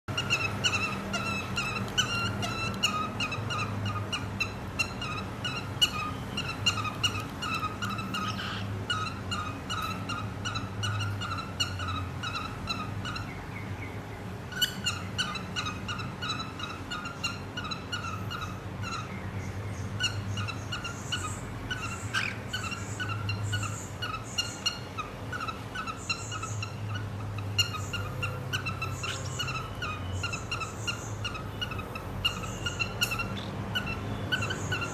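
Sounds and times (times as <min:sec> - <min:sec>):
cockatiel whistling and chattering: 0:00.1 - 0:13.4, 0:14.5 - 0:19.1, 0:20.0 - 0:34.9.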